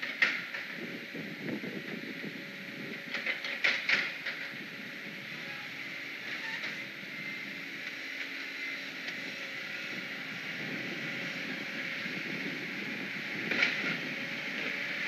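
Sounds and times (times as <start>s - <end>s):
wind hiss on microphone: 0.5s - 7.8s, 9.7s - 15.0s.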